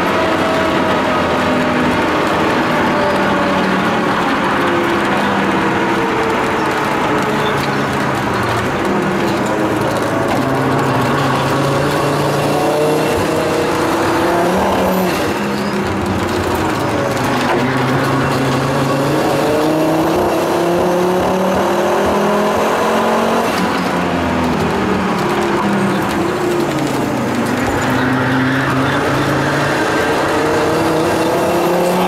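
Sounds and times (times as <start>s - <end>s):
road noise: 0.0s - 32.0s
turbocharged car engine revving: 0.0s - 32.0s.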